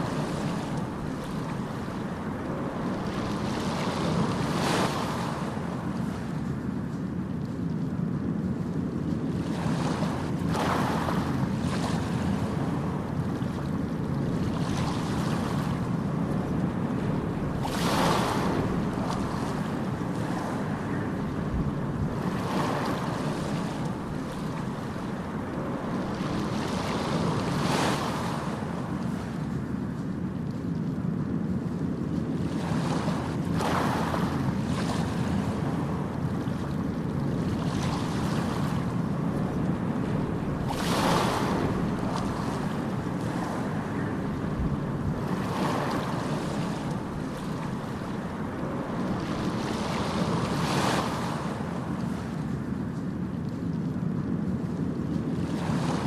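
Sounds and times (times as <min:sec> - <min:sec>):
ocean surf rumble: 0:00.0 - 0:56.0
waves breaking: 0:00.0 - 0:56.0.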